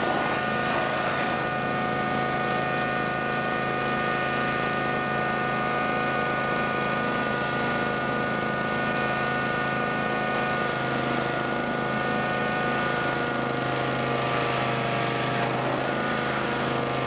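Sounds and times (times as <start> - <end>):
vacuum excavator engine drone: 0.0 - 17.0.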